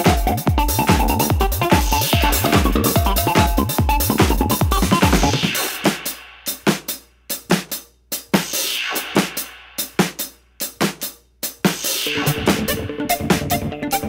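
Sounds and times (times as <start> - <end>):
drum kit playing: 0.0 - 14.0.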